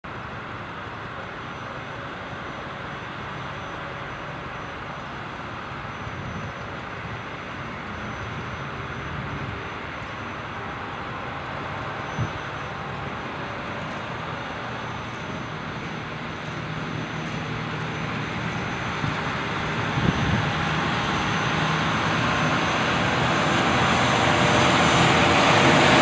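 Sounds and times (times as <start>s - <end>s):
distant locomotive engine drone: 0.1s - 26.0s.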